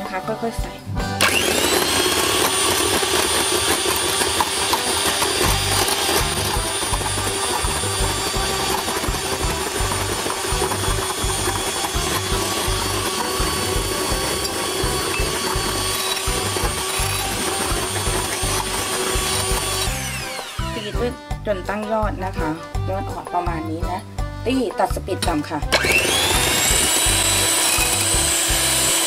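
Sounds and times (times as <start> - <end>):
electric hand mixer whipping: 1.2 - 21.2, 25.7 - 29.0.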